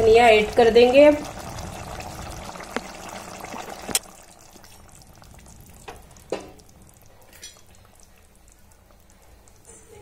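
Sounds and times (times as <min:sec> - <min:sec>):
curry simmering faintly: 0:00.0 - 0:10.0.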